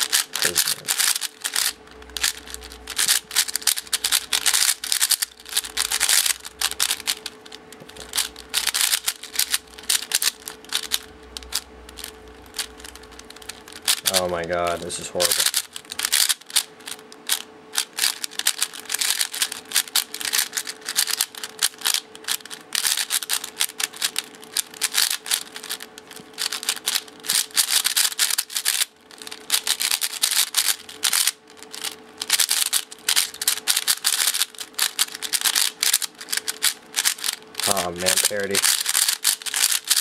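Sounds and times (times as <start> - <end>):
speed cube plastic clicks: 0.0 - 14.2, 15.2 - 40.0.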